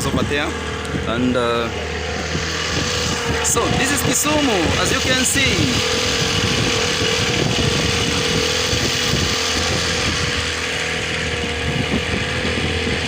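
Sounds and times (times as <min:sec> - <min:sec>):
outboard engine whining: 0:00.0 - 0:13.0
wind and water rushing: 0:00.0 - 0:13.0.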